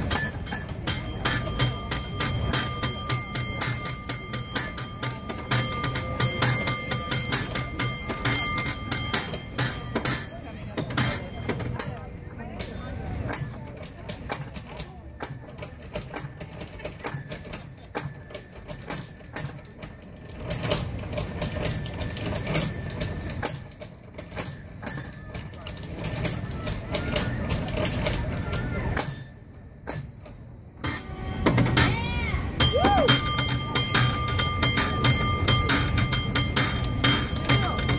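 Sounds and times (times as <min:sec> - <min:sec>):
cable car bell ringing: 0:00.0 - 0:37.9.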